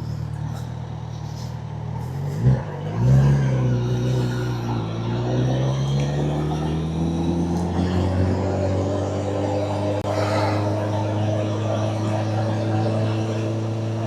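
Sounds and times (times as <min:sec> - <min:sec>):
motorcycle engine revving: 0:00.0 - 0:14.0
motorcycle pulling away: 0:00.0 - 0:14.0.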